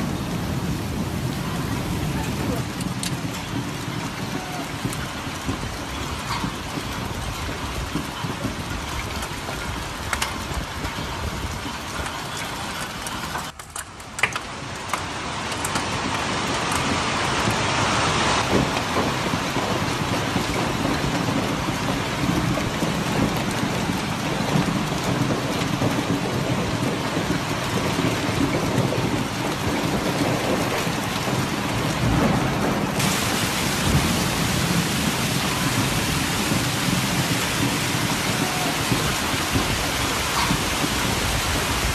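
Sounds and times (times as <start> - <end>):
heavy rain hissing: 0.0 - 13.5, 14.4 - 41.9.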